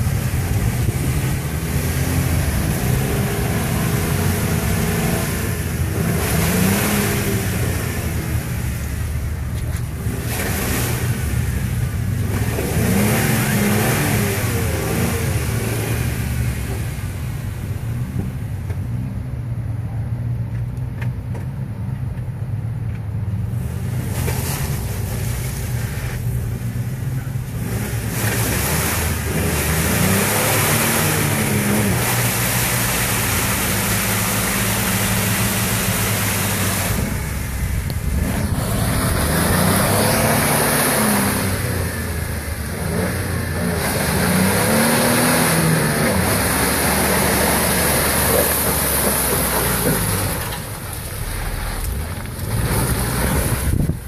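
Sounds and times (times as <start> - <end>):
engine revving: 0.0 - 17.2, 25.8 - 54.0
constant rushing noise: 0.0 - 54.0.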